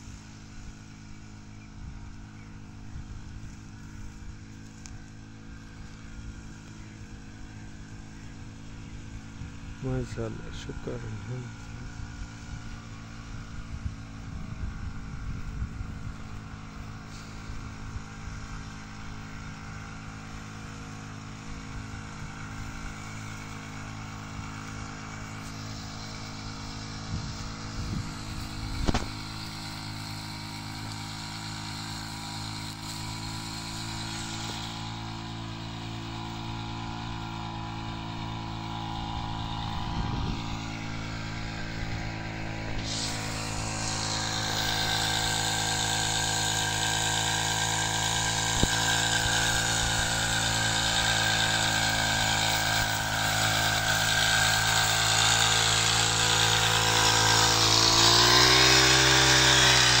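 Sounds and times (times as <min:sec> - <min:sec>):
power sprayer engine running: 0:00.0 - 1:00.0.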